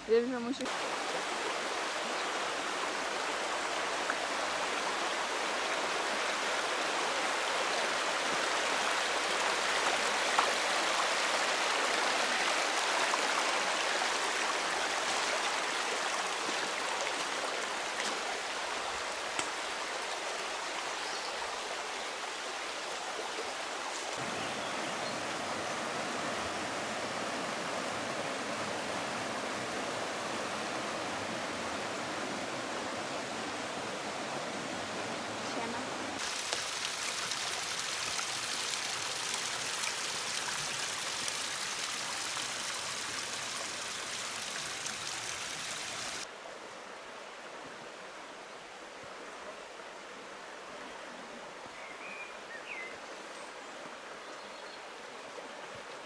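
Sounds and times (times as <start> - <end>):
running water rushing: 0.0 - 52.6.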